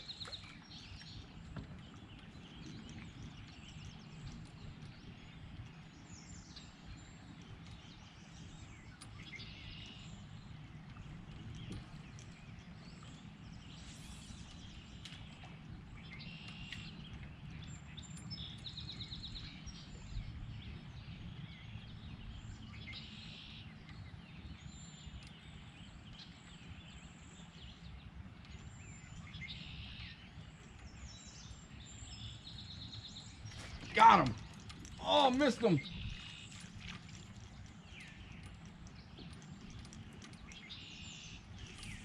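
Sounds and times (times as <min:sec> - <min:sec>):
songbirds singing and chirping: 0:00.0 - 0:42.0.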